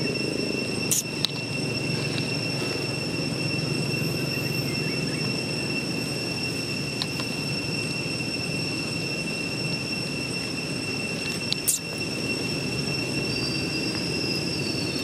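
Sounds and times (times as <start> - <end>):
high-pitched insect drone: 0.0 - 15.0
low outdoor rumble: 0.0 - 15.0.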